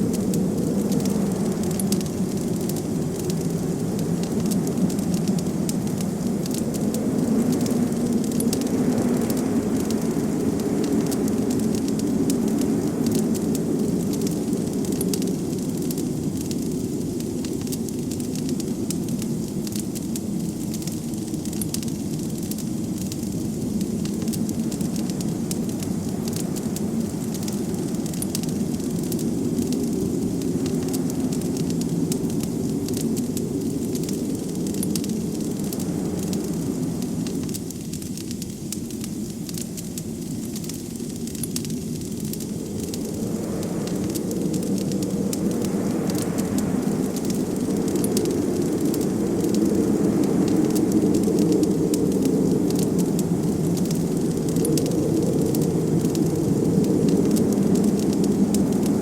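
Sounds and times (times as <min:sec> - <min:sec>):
blizzard wind: 0:00.0 - 0:59.0
wood fire crackling: 0:00.0 - 0:59.0.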